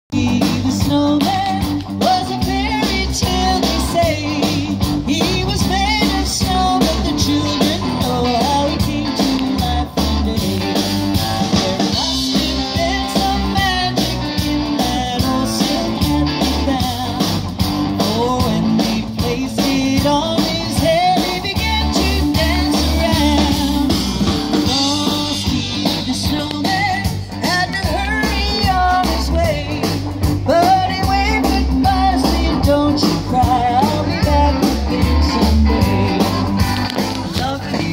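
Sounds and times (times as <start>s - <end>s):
bass guitar: 0.0s - 37.9s
drum kit: 0.1s - 37.9s
electric guitar: 0.1s - 37.9s
person singing: 0.1s - 37.9s.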